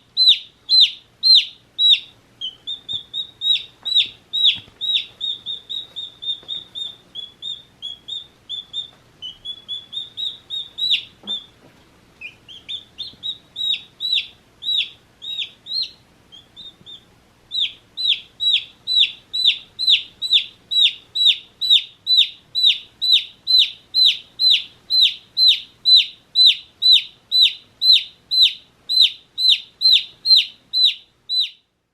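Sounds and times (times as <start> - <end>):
baby chicks peeping: 0.0 - 31.7.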